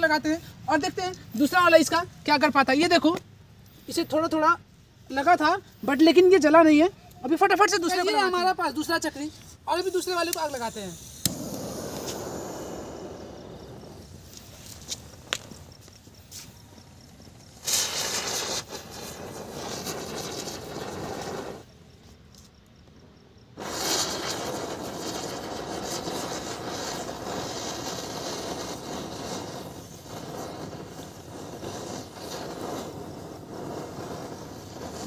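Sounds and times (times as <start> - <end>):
firework fizzing hiss: 0.0 - 21.8, 23.6 - 35.0.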